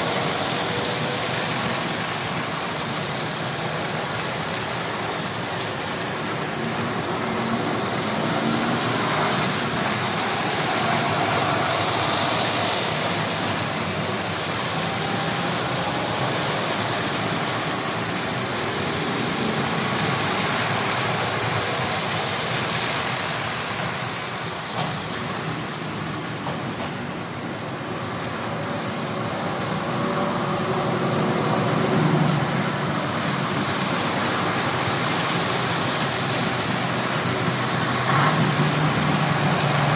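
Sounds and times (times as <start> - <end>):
lorry diesel engines: 0.0 - 39.9
tyre noise on wet road: 0.0 - 39.9.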